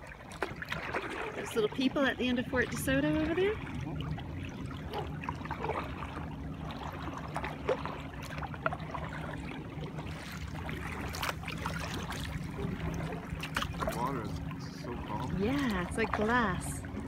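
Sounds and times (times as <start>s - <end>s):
paddles splashing in water: 0.0s - 17.0s
steady low hum: 0.0s - 17.0s.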